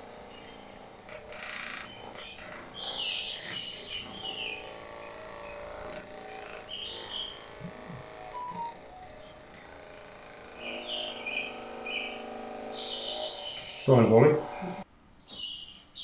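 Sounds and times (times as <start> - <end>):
massage gun motor hum: 0.0 - 14.9.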